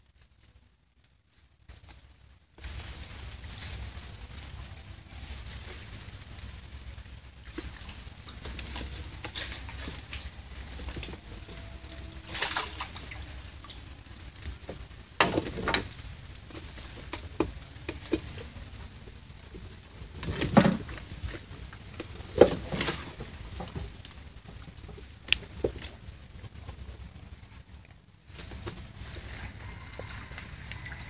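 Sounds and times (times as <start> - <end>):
water splashing and sloshing: 1.4 - 31.0
steady high-pitched hum: 2.1 - 31.0.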